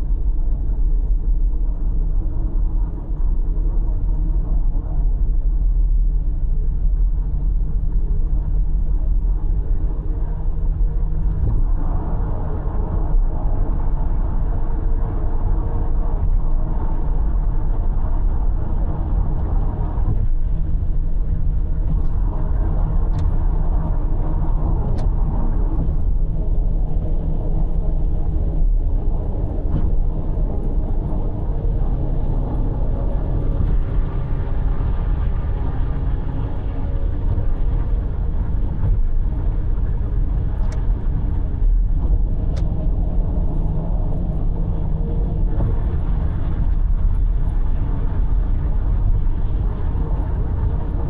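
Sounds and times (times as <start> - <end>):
car engine hum: 6.9 - 51.0.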